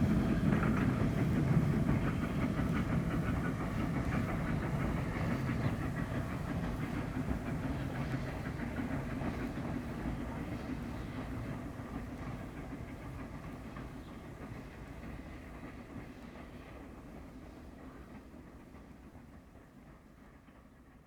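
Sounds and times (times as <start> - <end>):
low train rumble: 0.0 - 21.0.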